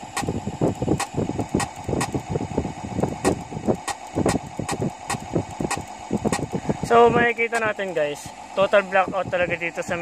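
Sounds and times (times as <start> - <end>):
diesel generator engine with knocks: 0.0 - 10.0.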